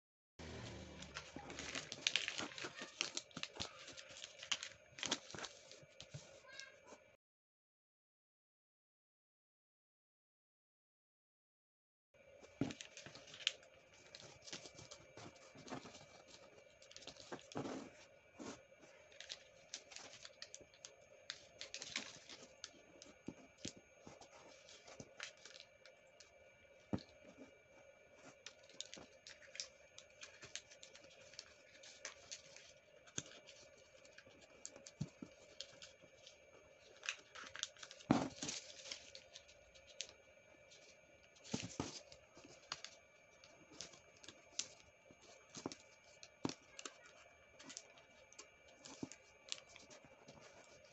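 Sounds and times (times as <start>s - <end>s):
paper being folded and creased: 0.4s - 6.7s, 12.6s - 25.7s, 28.2s - 50.9s.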